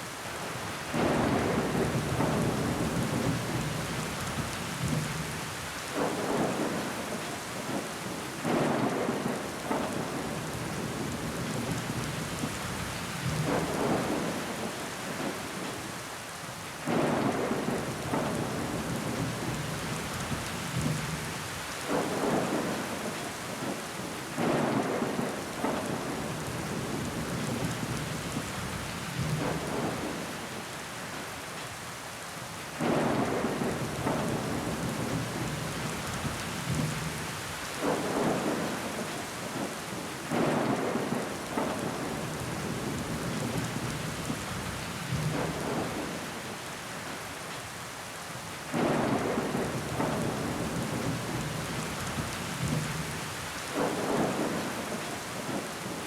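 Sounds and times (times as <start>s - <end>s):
rain pattering on window: 0.1s - 56.0s.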